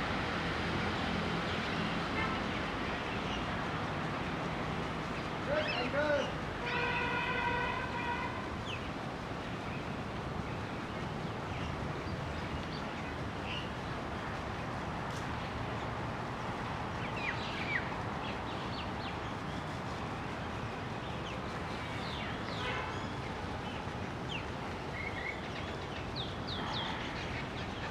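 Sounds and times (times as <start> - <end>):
outdoor ambient hiss: 0.0 - 27.9.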